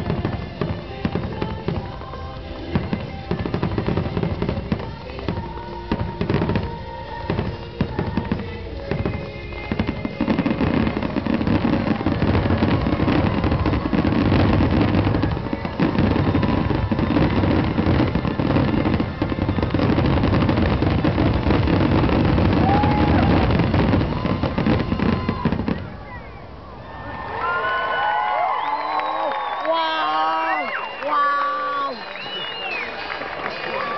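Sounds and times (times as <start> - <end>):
fireworks bursting and crackling: 0.0 - 27.0, 28.0 - 33.9.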